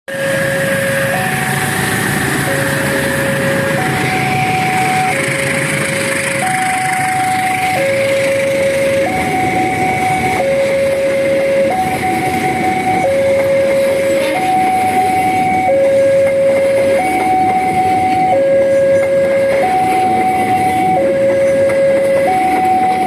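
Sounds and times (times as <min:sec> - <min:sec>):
diesel locomotive engine running: 0:00.1 - 0:23.0
level crossing two-tone alarm: 0:00.1 - 0:23.0.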